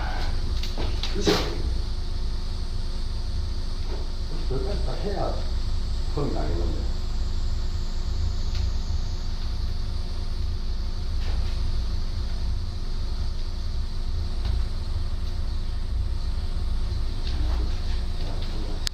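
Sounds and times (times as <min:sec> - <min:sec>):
wood fire rumbling in a stove: 0:00.0 - 0:18.9.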